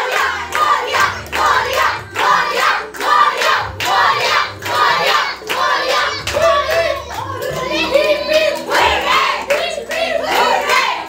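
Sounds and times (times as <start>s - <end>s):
group chanting: 0.0s - 11.0s
rhythmic hand clapping: 0.0s - 11.0s.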